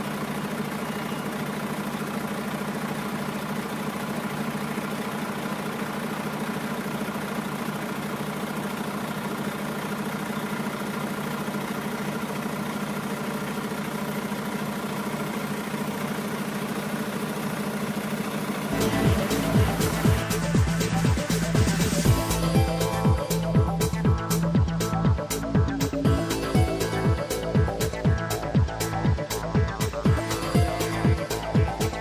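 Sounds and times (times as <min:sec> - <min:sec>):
engine running with steady hum: 0:00.0 - 0:32.0.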